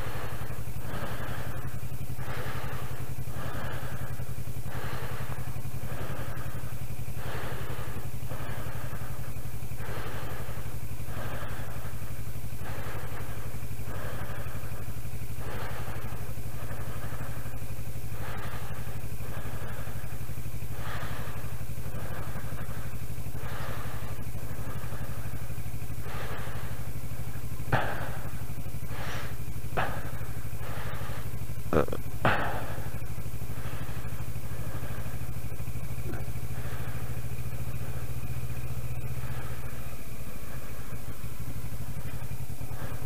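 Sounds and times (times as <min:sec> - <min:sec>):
hiss: 0:00.0 - 0:43.0
motorcycle engine at low revs: 0:00.0 - 0:43.0.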